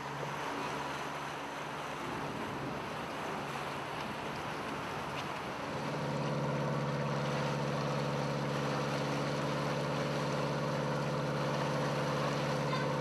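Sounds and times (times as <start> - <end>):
boat engine droning: 0.0 - 13.0
wind: 0.0 - 13.0.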